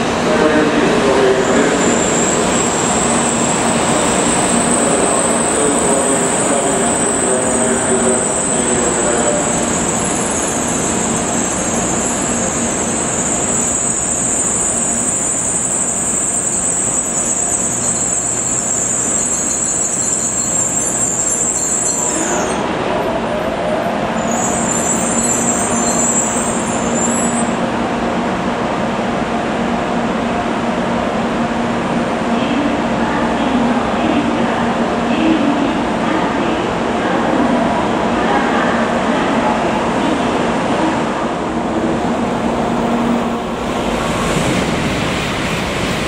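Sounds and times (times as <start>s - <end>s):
train rolling on rails: 0.0s - 46.0s.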